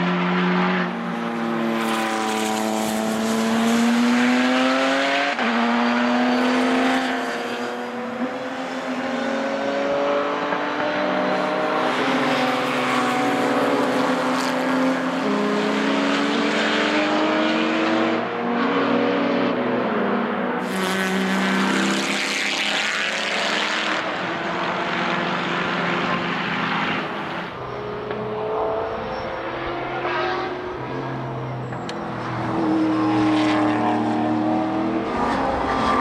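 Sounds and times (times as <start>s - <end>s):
racing car approaching: 0.0s - 36.0s
racing car engines accelerating: 0.0s - 36.0s.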